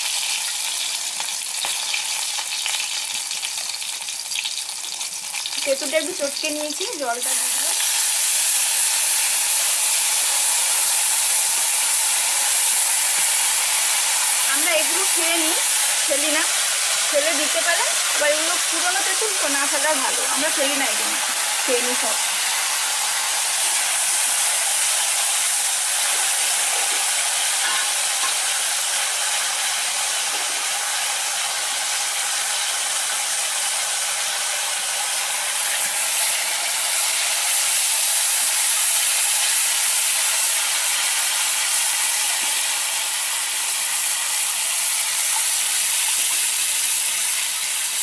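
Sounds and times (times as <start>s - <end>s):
hot oil sizzling: 0.0s - 48.0s.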